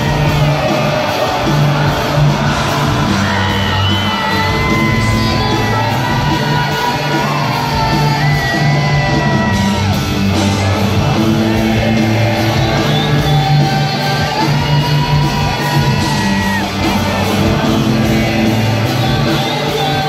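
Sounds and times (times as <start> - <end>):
crowd shouting along: 0.0 - 20.0
live rock band playing: 0.0 - 20.0.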